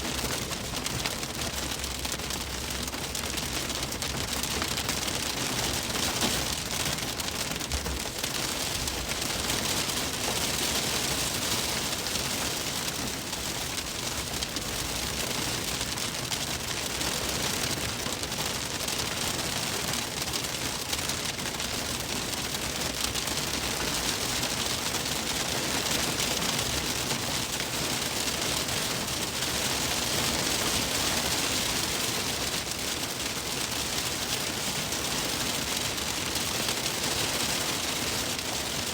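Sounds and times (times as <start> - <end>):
hail pelting a car roof: 0.0 - 38.9.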